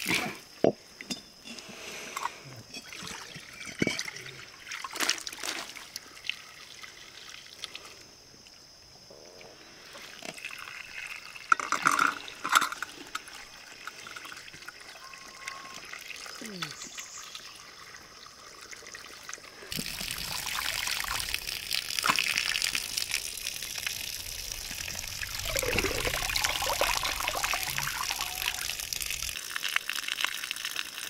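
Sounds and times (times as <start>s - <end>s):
water trickling and splashing: 2.6s - 8.0s, 9.8s - 31.0s.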